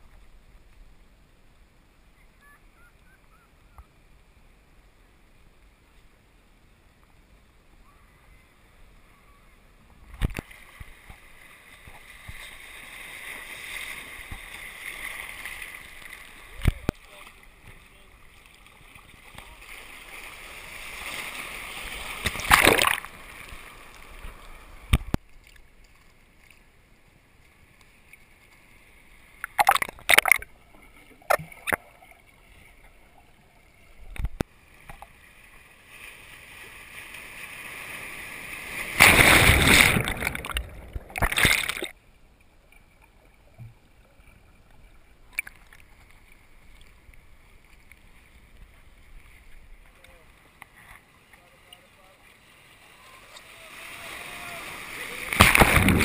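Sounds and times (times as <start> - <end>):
rush of water: 0.0 - 56.0
surf sloshing and splashing: 8.0 - 42.0, 42.8 - 56.0.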